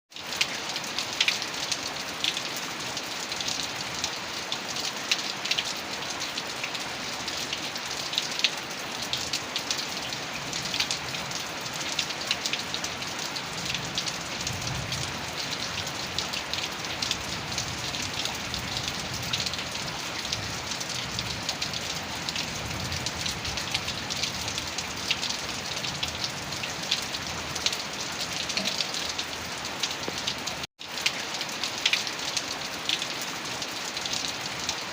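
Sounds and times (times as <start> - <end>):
heavy rain: 0.1 - 34.9
raindrops ticking on hard surface: 0.2 - 34.9.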